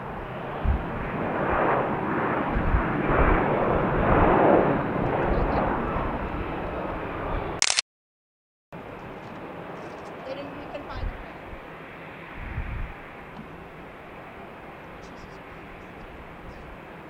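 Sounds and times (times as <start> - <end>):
airplane engine passing: 0.0 - 7.6, 8.8 - 17.0.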